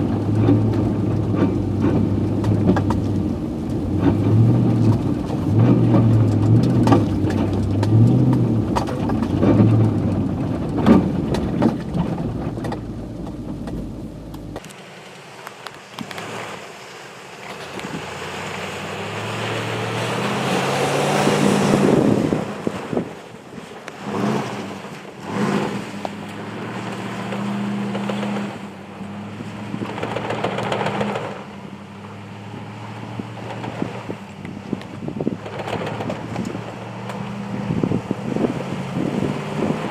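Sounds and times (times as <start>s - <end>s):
pickup engine pulling through snow: 0.0s - 15.4s, 17.3s - 39.9s.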